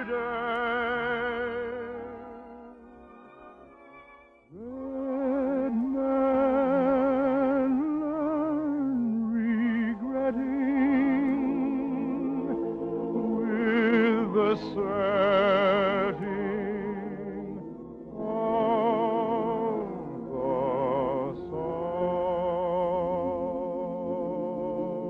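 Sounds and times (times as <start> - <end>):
orchestral accompaniment: 0.0 - 6.5, 9.8 - 25.0
operatic singing: 0.0 - 25.0.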